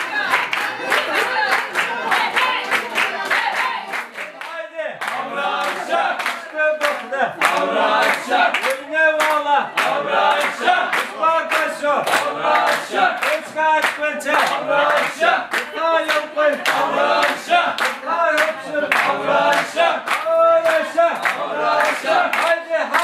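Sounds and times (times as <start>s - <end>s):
group singing and calling out: 0.0s - 23.0s
people clapping in steady beat: 0.0s - 23.0s.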